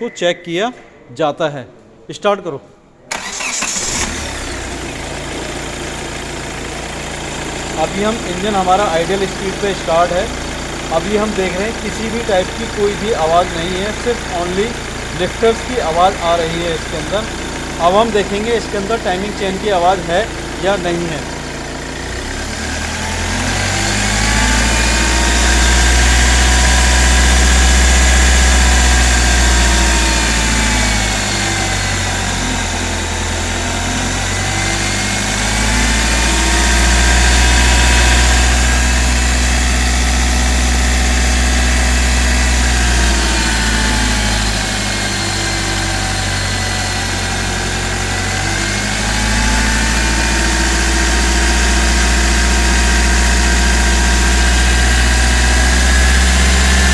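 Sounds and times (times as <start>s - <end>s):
car engine revving: 3.1s - 56.9s.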